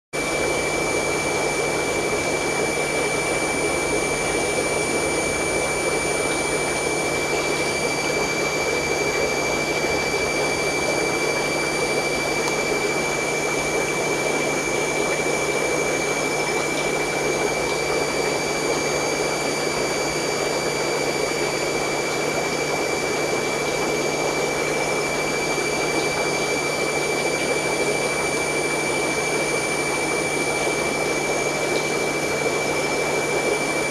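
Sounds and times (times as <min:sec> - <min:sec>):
aquarium air pump humming: 0:00.1 - 0:33.9
high-pitched whine: 0:00.2 - 0:33.9.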